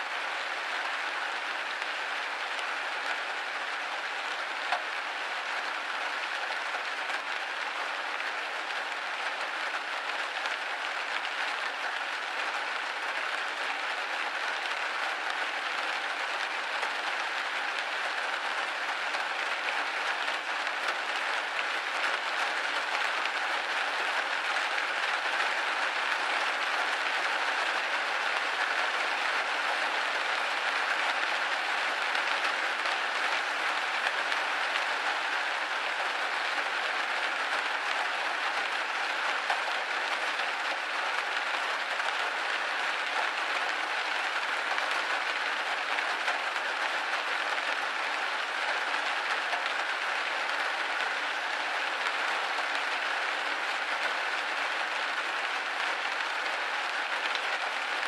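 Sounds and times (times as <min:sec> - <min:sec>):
rain hitting a window: 0:00.0 - 0:58.0.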